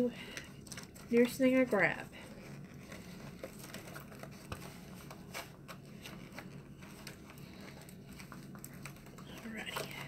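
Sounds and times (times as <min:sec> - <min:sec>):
soft rustling of packaging: 0:00.0 - 0:10.0.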